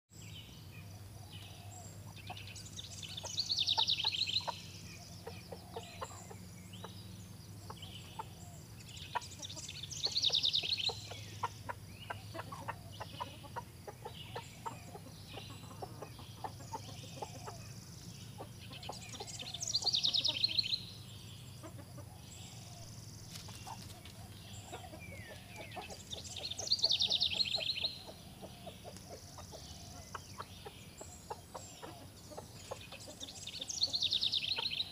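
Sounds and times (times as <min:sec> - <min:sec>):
chickens clucking: 0:01.4 - 0:34.9.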